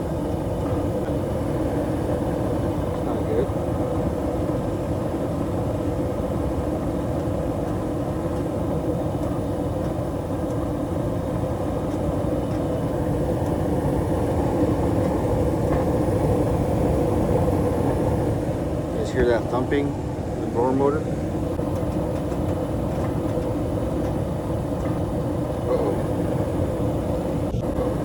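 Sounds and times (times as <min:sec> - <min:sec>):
furnace blower motor rumbling: 0:00.0 - 0:28.0.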